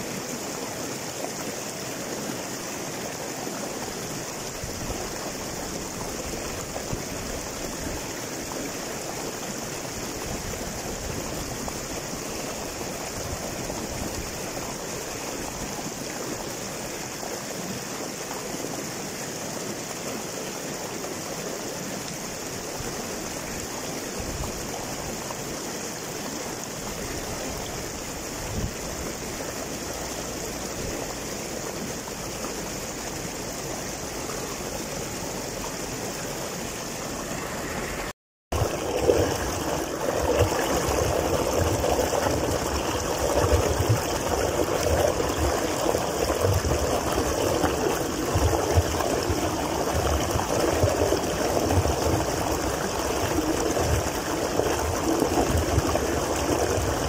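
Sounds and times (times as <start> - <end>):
river rushing over boulders: 0.0 - 57.0.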